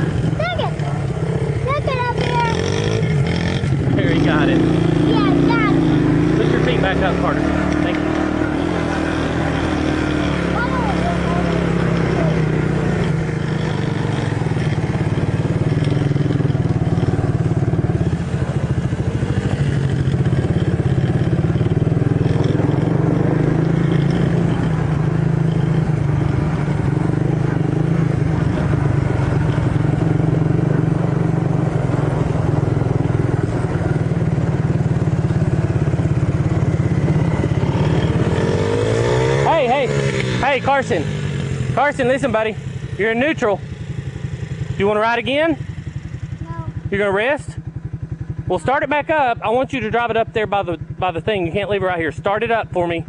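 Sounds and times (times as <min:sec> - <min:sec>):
small engines running: 0:00.0 - 0:43.6.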